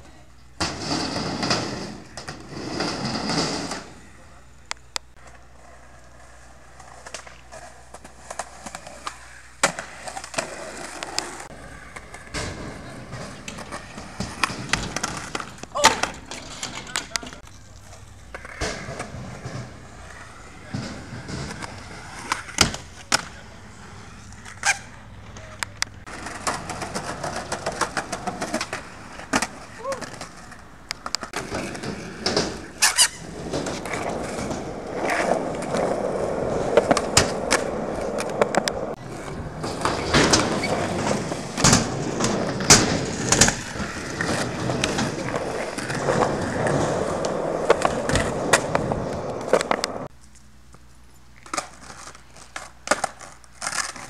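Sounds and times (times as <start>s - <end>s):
skateboard wheels rolling on concrete: 0.0s - 54.0s
skateboard clacks: 4.7s - 50.2s, 51.4s - 54.0s.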